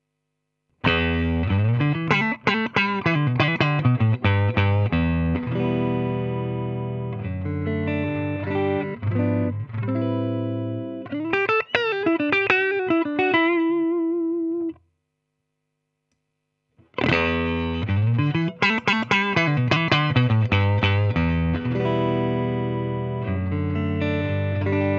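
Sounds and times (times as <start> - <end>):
distorted electric guitar: 0.8 - 14.8, 16.8 - 24.9.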